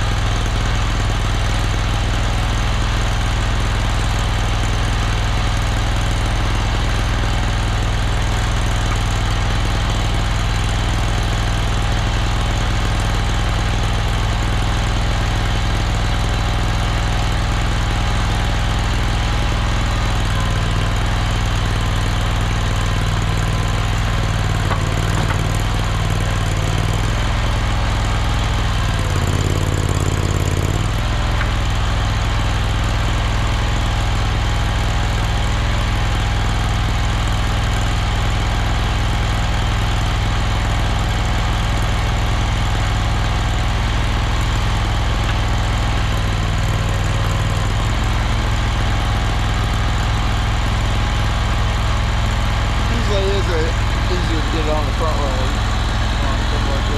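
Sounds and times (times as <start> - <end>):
skid steer engine running: 0.0 - 56.9.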